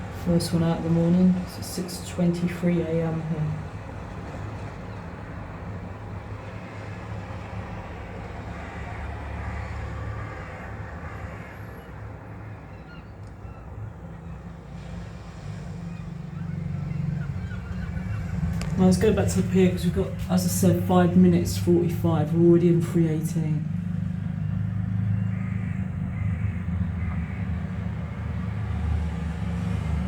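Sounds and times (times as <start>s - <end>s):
low rumble and hiss of sea: 0.0s - 30.0s.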